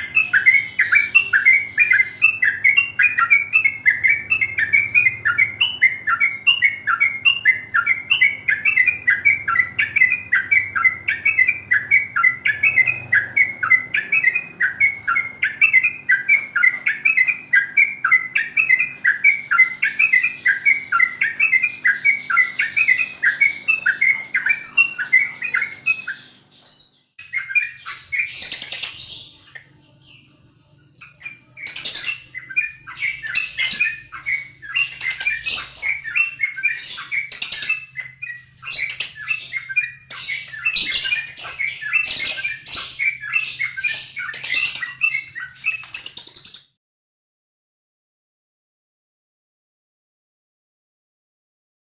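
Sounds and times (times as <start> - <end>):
bulbul singing: 0.0 - 46.7.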